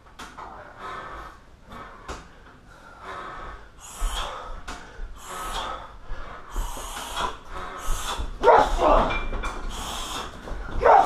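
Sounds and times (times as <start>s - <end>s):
person panting: 0.5s - 11.0s.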